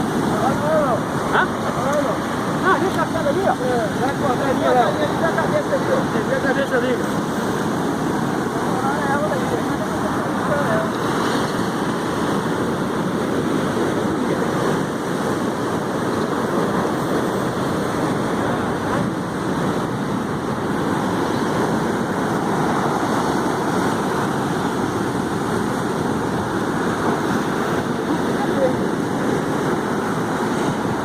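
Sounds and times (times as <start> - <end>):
surf washing over rocks: 0.0 - 31.0.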